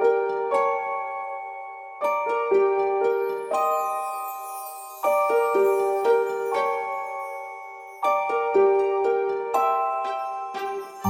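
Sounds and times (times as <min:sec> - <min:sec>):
bell-like instrumental music: 0:00.0 - 0:11.0.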